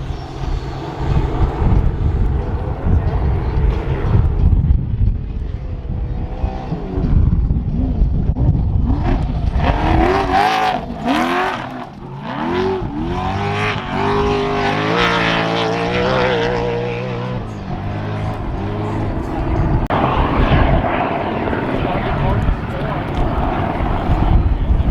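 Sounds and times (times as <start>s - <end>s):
low rumbling noise: 0.0s - 24.9s
race engine accelerating: 0.0s - 24.9s.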